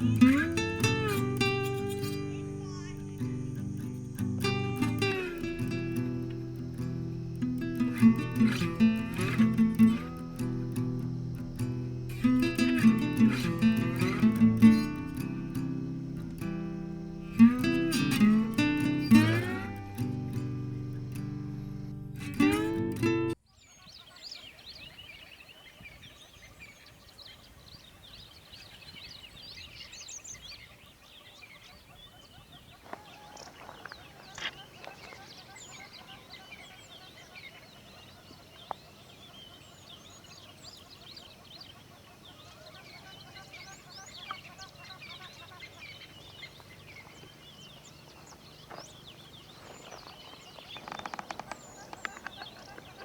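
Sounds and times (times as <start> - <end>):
birds chirping in chorus: 0.0 - 53.0.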